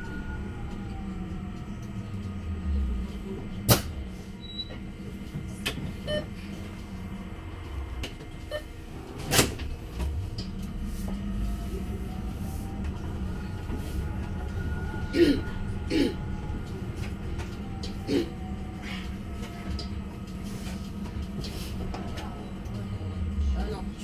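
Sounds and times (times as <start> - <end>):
electric bus drive whine: 0.0 - 24.0
steady low hum: 0.0 - 24.0.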